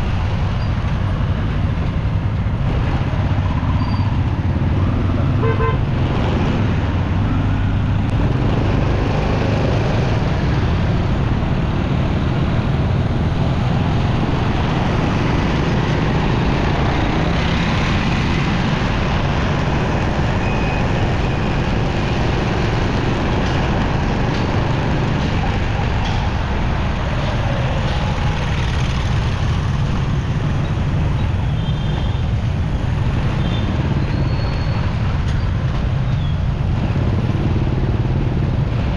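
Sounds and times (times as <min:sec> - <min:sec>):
city traffic noise: 0:00.0 - 0:38.9.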